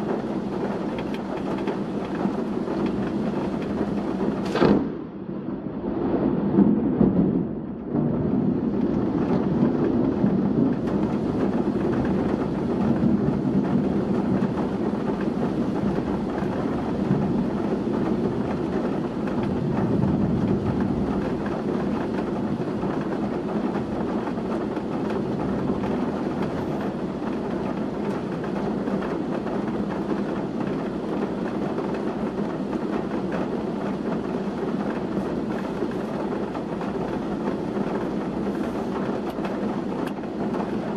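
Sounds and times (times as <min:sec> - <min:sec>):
heavy rain in gusty wind: 0:00.0 - 0:40.9.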